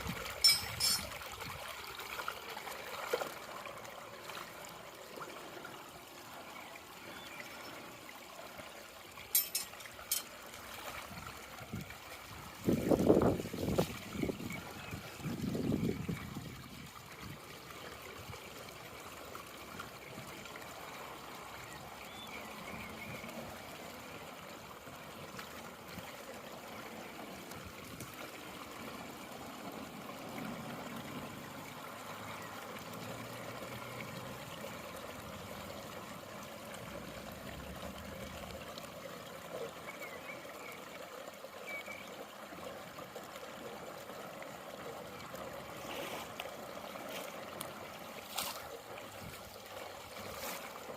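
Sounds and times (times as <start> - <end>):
water trickling through a drain: 0.0 - 50.9.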